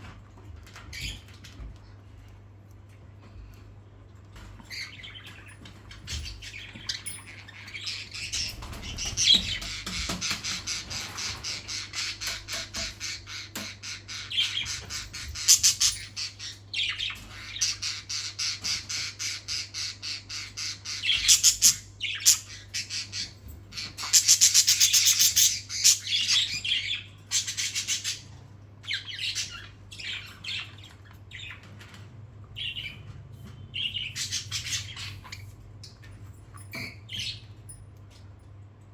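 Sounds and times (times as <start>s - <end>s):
parrots chattering and squawking: 4.3s - 38.4s.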